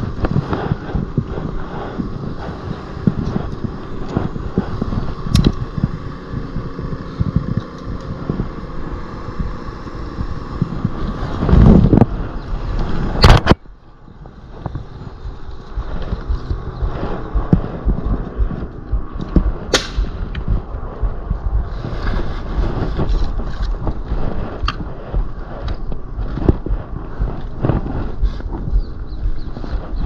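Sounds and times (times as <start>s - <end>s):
wind rumble: 0.0s - 30.0s.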